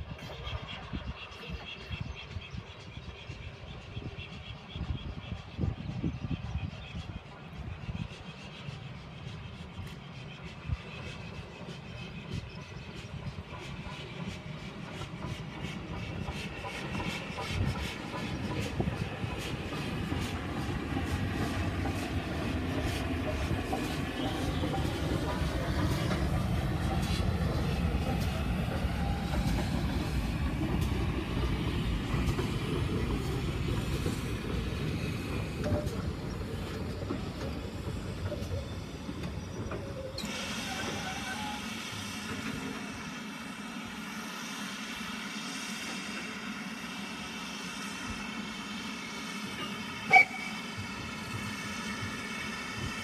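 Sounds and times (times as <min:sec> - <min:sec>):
steam train rumbling past: 0:00.0 - 0:53.0.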